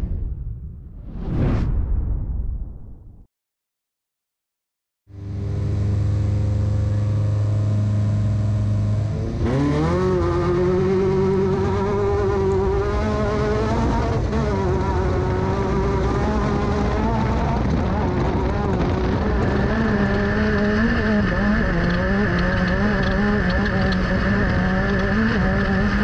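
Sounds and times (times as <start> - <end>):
race car engine revving: 5.1 - 26.0.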